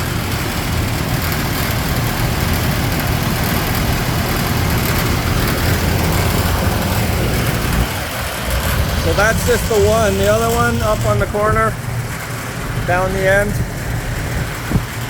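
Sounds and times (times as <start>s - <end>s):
rattling vibration: 0.0s - 15.0s
ventilation fan rumbling: 0.0s - 15.0s.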